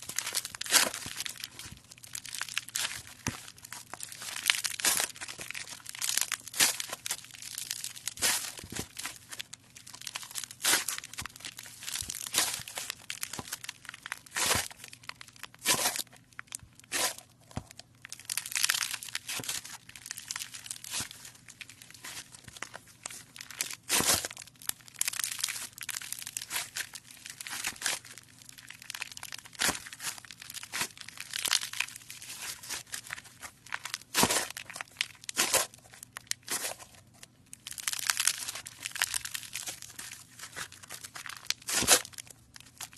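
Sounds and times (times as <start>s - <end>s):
slime squeezed by hand crackling: 0.0s - 42.9s.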